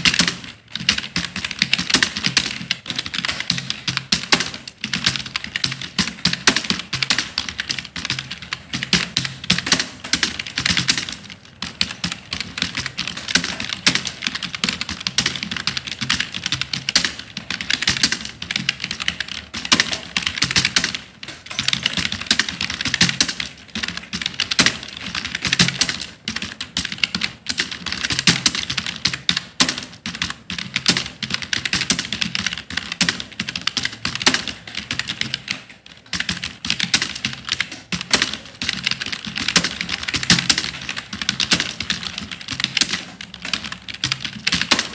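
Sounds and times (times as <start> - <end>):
fast typing on keyboard: 0.0 - 44.9.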